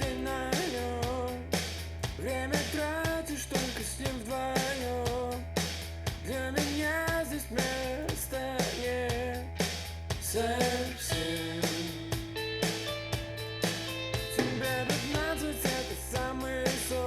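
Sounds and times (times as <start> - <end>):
rock song with vocals: 0.0 - 17.0.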